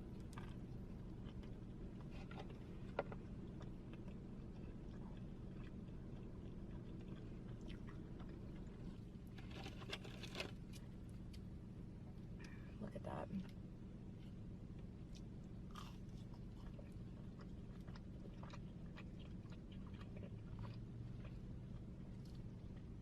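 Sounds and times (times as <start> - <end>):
person chewing and crunching food: 0.0 - 11.4, 14.2 - 23.0
low hum: 0.0 - 23.0.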